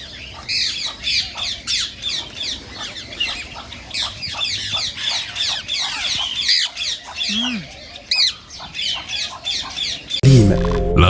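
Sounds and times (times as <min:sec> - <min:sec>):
parakeets calling: 0:00.0 - 0:10.2.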